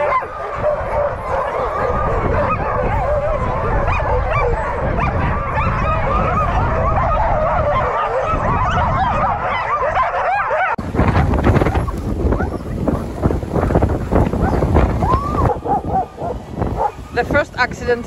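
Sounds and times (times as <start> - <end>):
dogs yelping and whining: 0.0 - 10.8, 11.8 - 13.2, 14.4 - 17.2
sled team rushing noise: 0.0 - 18.0.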